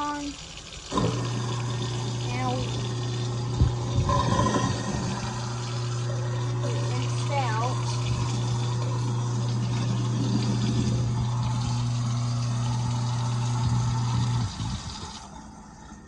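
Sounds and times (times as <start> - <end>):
garbage disposal grinding: 0.0 - 16.0
tap water running: 0.0 - 16.0.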